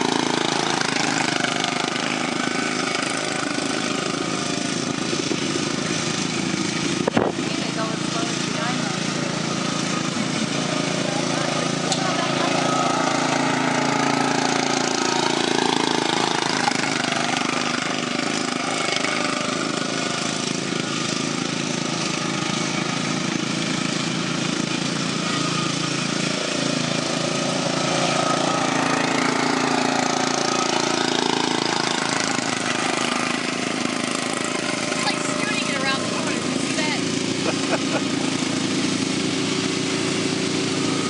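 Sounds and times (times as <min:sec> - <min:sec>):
racing lawn mower engines: 0:00.0 - 0:41.0.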